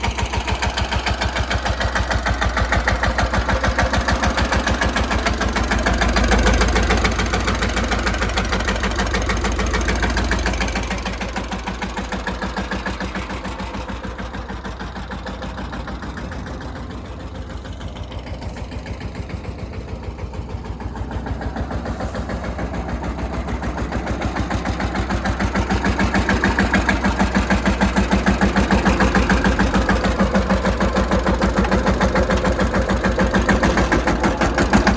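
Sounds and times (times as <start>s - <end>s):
tractor diesel engine thudding: 0.0s - 34.9s.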